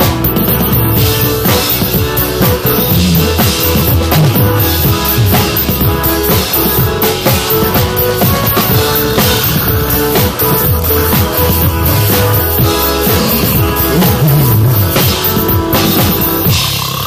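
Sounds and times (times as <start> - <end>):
drum kit playing: 0.0 - 17.0
pop backing music: 0.0 - 17.0.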